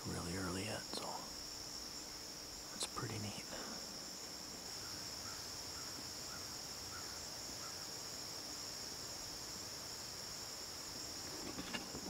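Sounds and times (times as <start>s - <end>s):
crickets chorus: 0.0s - 12.0s.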